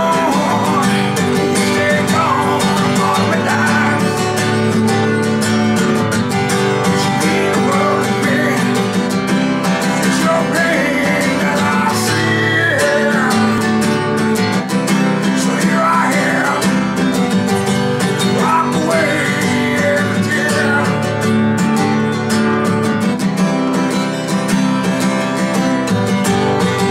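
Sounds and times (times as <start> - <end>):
man singing: 0.0 - 21.6
acoustic guitar strumming: 0.0 - 26.9.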